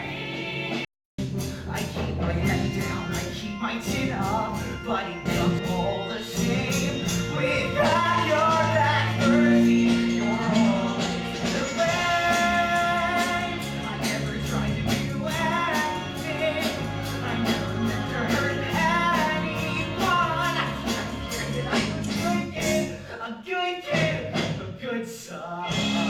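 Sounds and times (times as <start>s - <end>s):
rock band accompaniment: 0.0s - 23.0s, 25.7s - 26.0s
young man singing: 1.6s - 26.0s.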